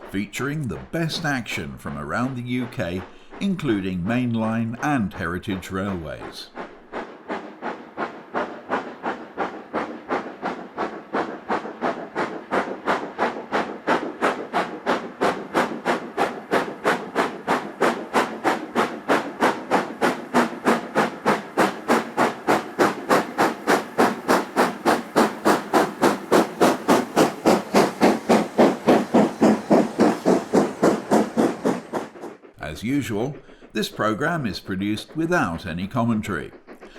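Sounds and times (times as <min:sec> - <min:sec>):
steam locomotive chuffing: 0:00.0 - 0:36.9.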